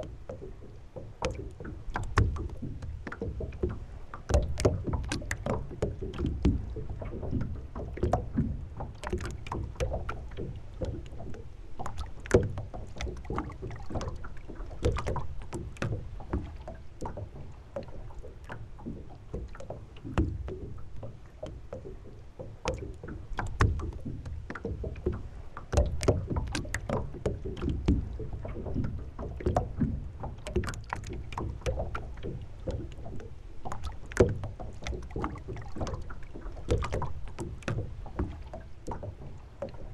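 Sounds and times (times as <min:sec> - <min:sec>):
boat knocks and clicks: 0:00.0 - 0:39.9
low steady rumble: 0:00.0 - 0:39.9
water lapping against hull: 0:00.0 - 0:39.9.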